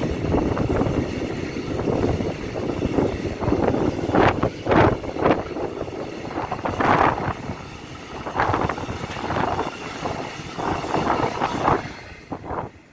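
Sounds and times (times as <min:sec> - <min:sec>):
train wheels clattering on rails: 0:00.0 - 0:12.9.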